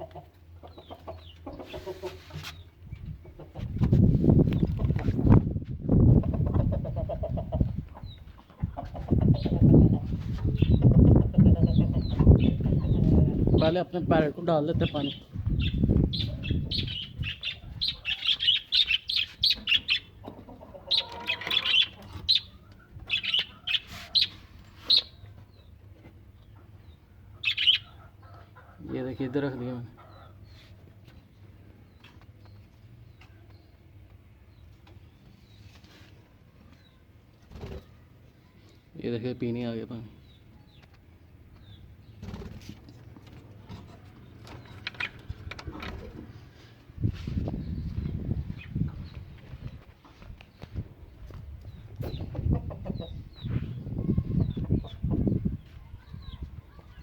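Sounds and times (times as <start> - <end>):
caged birds chirping: 0.0 - 57.0.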